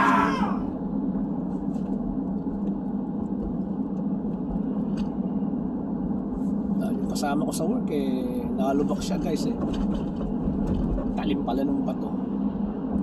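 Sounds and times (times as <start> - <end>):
car engine and tyres rumble: 0.0 - 13.0.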